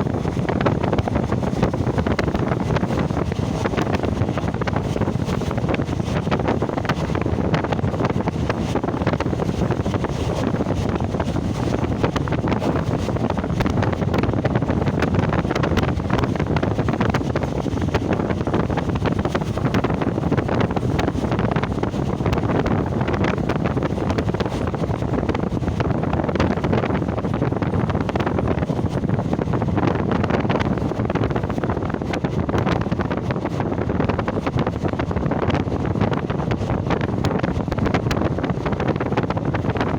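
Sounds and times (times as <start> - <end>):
moving train running noise: 0.0 - 39.9
wind buffeting microphone: 0.0 - 39.9.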